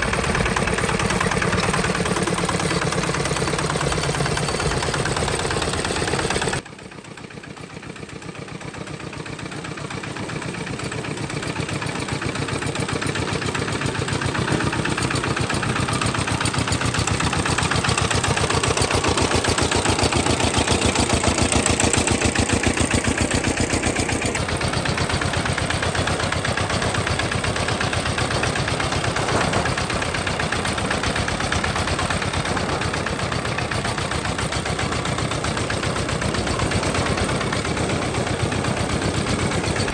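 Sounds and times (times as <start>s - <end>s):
tractor engine chugging: 0.0s - 39.9s.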